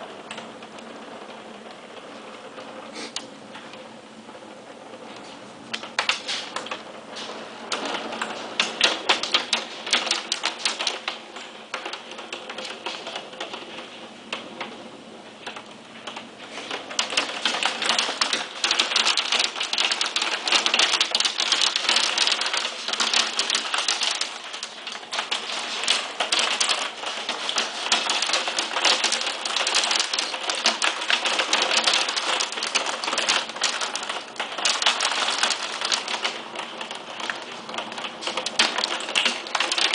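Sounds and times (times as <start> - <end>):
heavy rain: 0.0 - 39.9
hailstones clattering: 5.7 - 14.8, 15.4 - 39.9.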